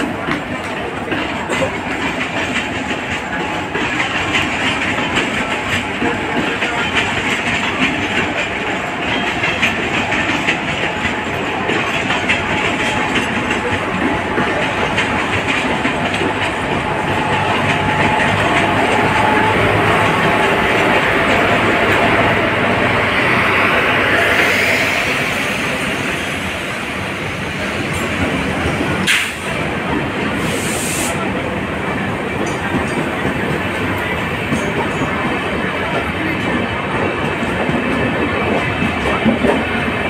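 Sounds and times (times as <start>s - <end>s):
diesel locomotive drone: 0.0s - 40.0s
train wheels clattering over rail joints: 0.0s - 40.0s.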